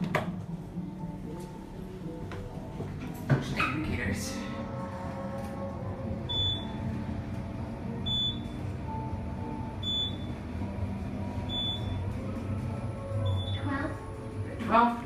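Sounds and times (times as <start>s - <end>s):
elevator hum: 0.0s - 15.0s.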